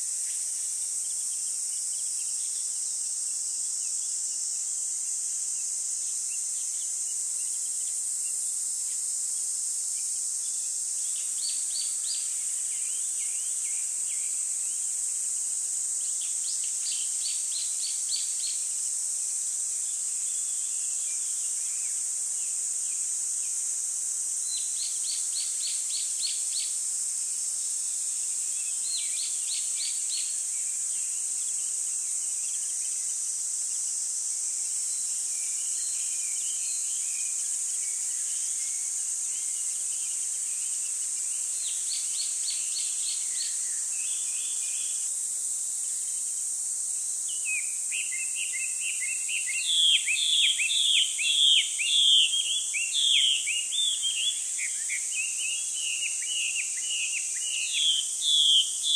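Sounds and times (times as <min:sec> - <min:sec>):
insect chorus: 0:00.0 - 0:58.9.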